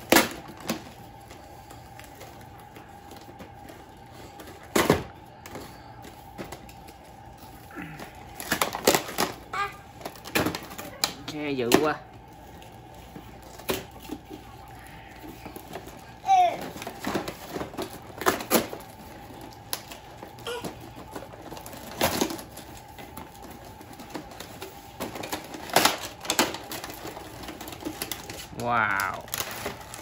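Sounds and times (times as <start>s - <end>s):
toy packaging clicks and rattles: 0.0s - 30.0s.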